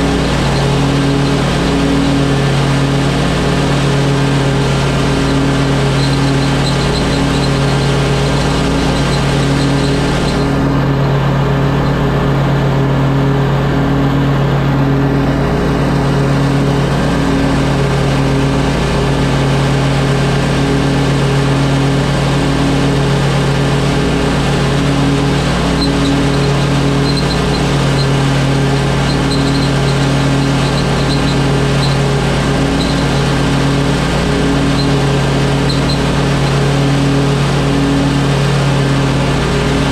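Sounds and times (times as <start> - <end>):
lawn mower engine droning: 0.0 - 39.9.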